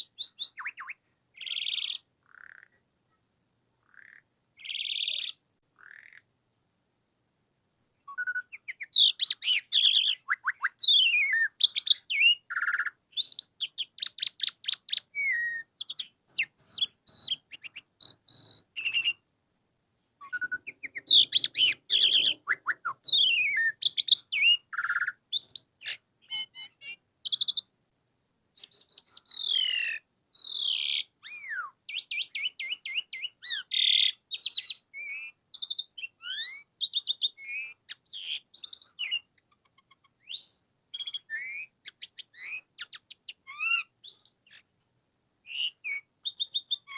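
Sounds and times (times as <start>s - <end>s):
starling singing: 0.0s - 3.2s, 3.8s - 6.2s, 8.1s - 19.2s, 20.2s - 27.7s, 28.6s - 46.9s.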